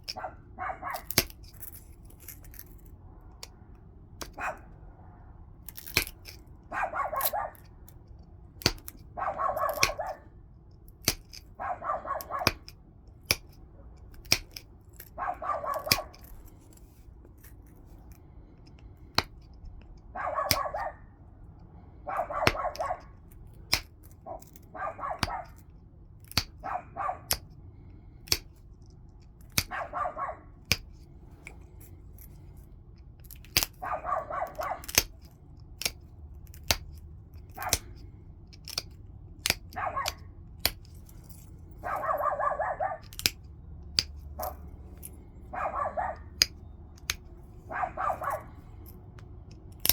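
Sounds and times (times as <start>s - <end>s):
tool clicking on stone: 0.9s - 3.6s, 4.2s - 4.4s, 5.7s - 6.5s, 7.2s - 11.6s, 12.2s - 20.8s, 22.2s - 27.6s, 28.2s - 29.9s, 30.7s - 42.2s, 43.0s - 45.5s, 46.2s - 49.9s.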